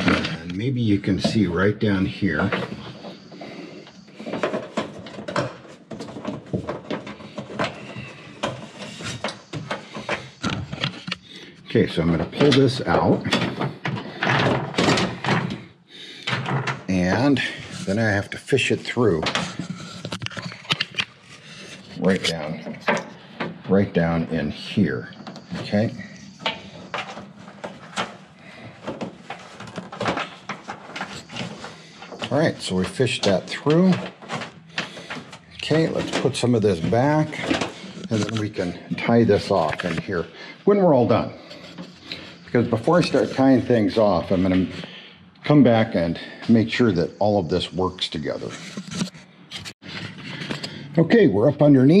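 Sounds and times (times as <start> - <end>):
hands working cable and plastic: 0.0 - 52.0.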